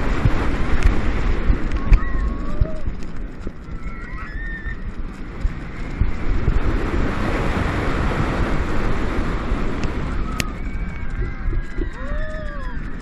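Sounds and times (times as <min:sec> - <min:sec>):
roller coaster train on steel track: 0:00.0 - 0:13.0
wind rushing on microphone: 0:00.0 - 0:13.0.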